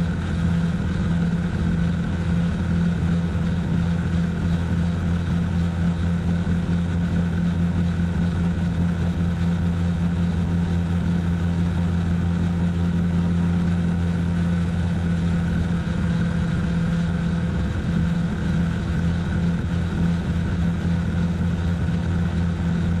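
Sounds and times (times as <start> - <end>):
model helicopter rotor drone: 0.0 - 23.0.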